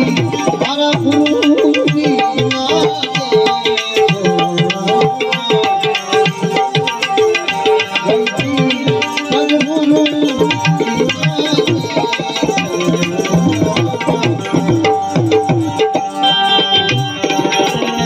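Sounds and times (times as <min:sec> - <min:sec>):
held melodic notes: 0:00.0 - 0:18.0
tabla rhythm: 0:00.0 - 0:18.0.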